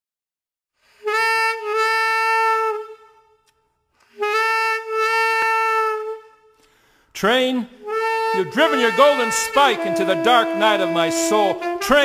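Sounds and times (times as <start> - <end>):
saxophone holding long notes: 1.0 - 6.8, 7.7 - 12.0.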